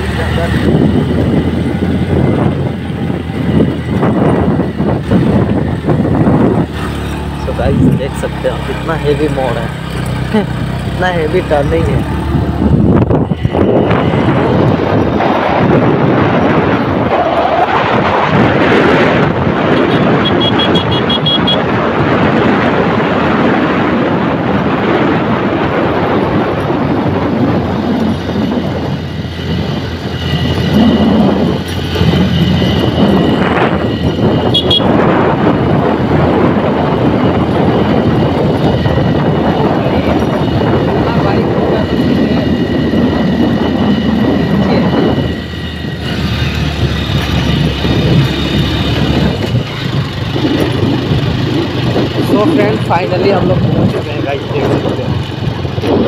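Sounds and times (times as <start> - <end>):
motorcycle engine under load: 0.0 - 16.9, 26.5 - 56.0
wind and road noise: 0.0 - 56.0.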